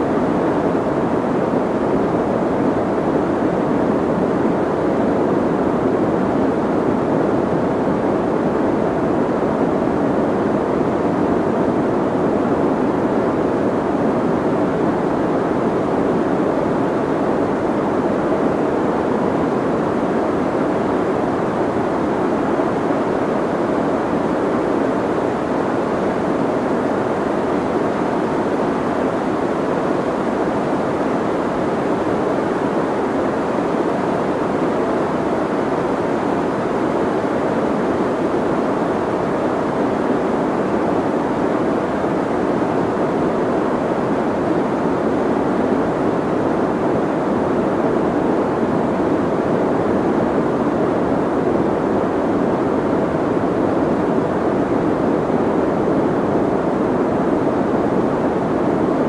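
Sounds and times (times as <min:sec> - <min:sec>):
soft white noise hiss: 0:00.0 - 0:59.0.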